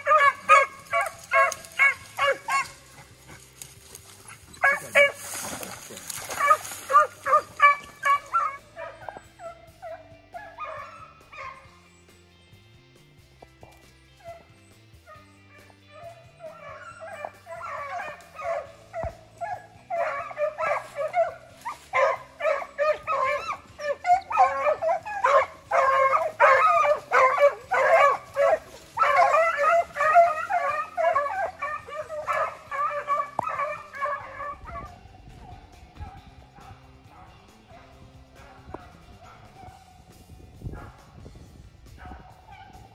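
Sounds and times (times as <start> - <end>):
hounds baying and yelping: 0.0 - 12.0, 13.7 - 41.2, 42.0 - 42.9.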